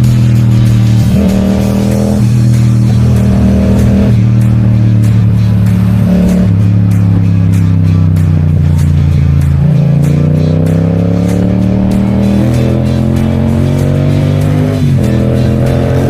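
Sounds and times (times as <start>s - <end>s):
bass and guitar music: 0.0s - 16.0s
light percussive beat: 0.0s - 16.0s.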